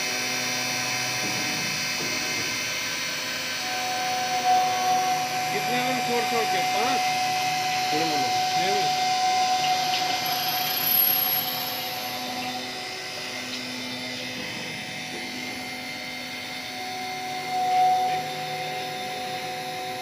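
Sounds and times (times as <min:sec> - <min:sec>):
drilling machine whine: 0:00.0 - 0:20.0.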